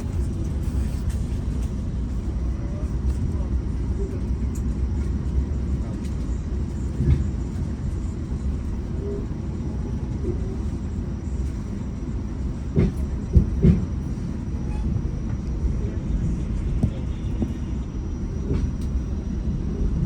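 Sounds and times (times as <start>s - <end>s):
train interior low rumble: 0.0s - 20.0s.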